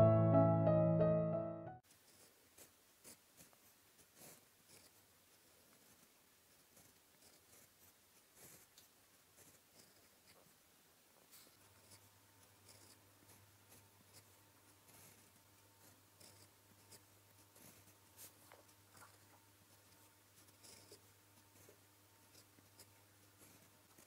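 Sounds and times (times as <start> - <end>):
pen nib scratching on paper: 1.9 - 10.6, 11.2 - 24.0
faint low hum: 2.0 - 24.0.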